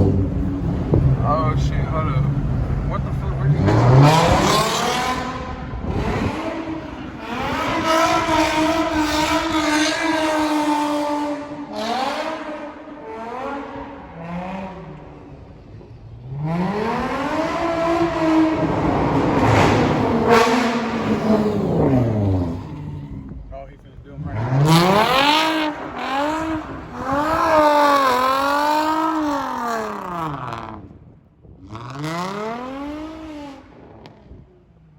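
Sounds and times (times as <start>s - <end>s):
car engine revving hard: 0.0s - 30.9s, 31.6s - 34.4s.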